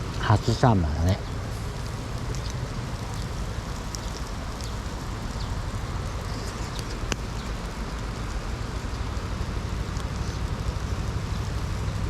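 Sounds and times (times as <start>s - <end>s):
distant road traffic rumble: 0.0s - 12.0s
faint high ticks: 1.4s - 12.0s.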